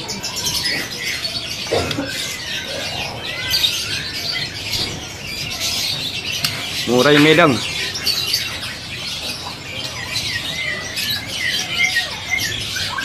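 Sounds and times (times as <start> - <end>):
songbirds chirping and twittering: 0.0 - 13.0.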